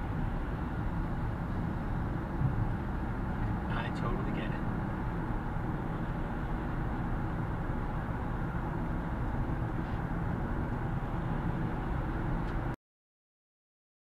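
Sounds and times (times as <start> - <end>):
car engine drone: 0.0 - 12.8.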